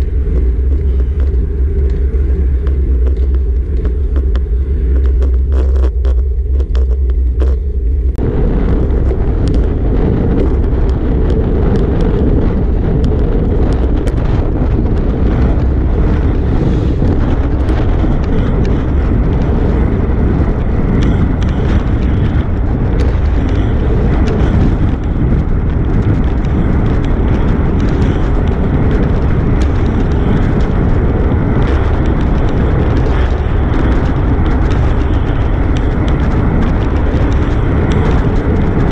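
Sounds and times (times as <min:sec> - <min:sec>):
small knocks from road vibration: 0:00.0 - 0:07.6, 0:08.7 - 0:38.9
road rumble: 0:00.0 - 0:38.9
wind buffeting microphone: 0:00.0 - 0:38.9.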